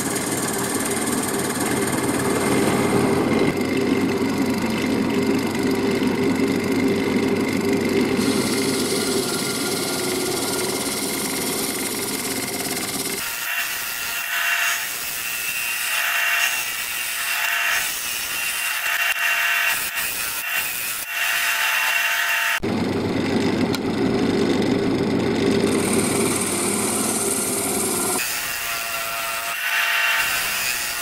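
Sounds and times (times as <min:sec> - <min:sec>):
gouge cutting wood on lathe: 0:00.0 - 0:22.6, 0:25.8 - 0:31.0.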